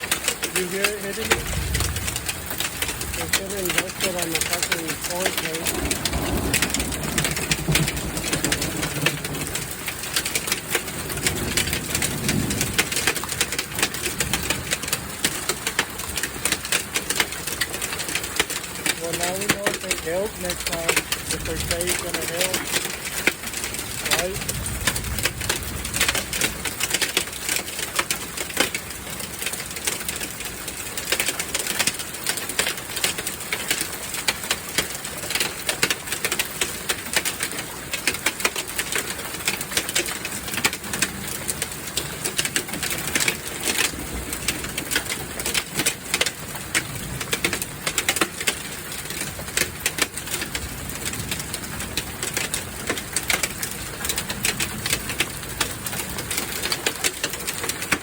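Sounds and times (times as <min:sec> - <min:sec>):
hailstones clattering on hard surface: 0:00.0 - 0:58.0.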